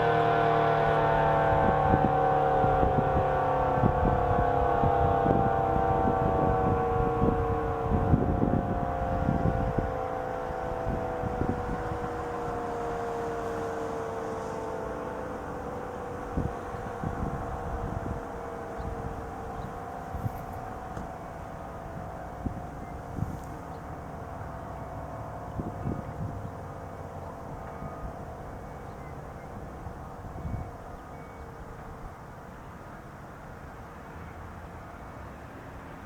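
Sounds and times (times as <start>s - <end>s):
tornado siren winding down: 0.0s - 31.9s
wind rumbling on microphone: 0.0s - 33.6s.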